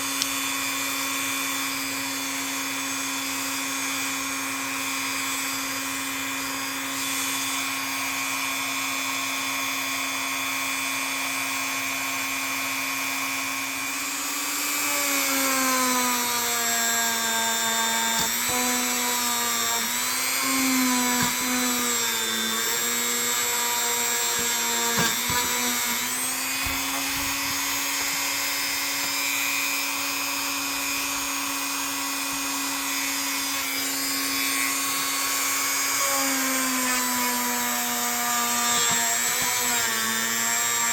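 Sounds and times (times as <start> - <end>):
power tool motor buffing: 0.0 - 40.9.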